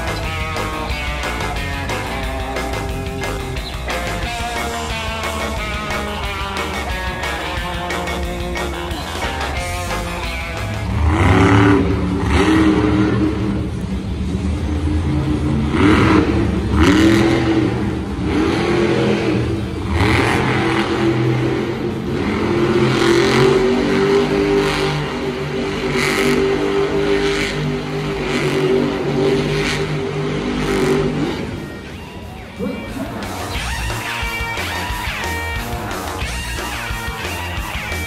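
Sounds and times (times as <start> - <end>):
truck engine revving hard: 0.0 - 38.0.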